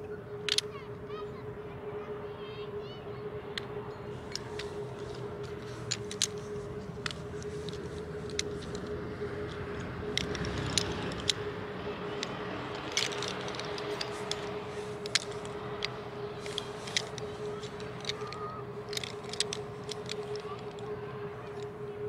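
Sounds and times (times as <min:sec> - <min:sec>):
faint steady hum: 0:00.0 - 0:22.0
camping gear clicks and knocks: 0:00.4 - 0:00.7, 0:03.6 - 0:21.8.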